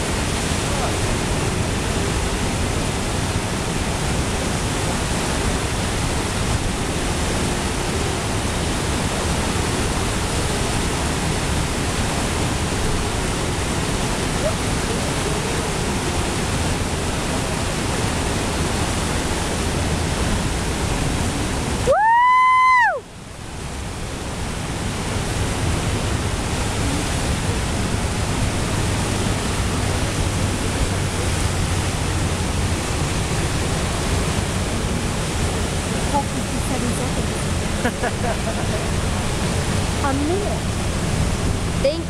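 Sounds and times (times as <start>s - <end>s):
churning whitewater rushing: 0.0s - 42.0s.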